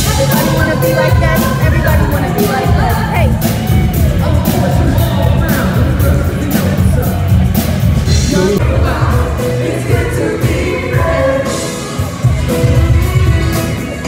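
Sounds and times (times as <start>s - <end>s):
pop music with singer: 0.0s - 14.0s.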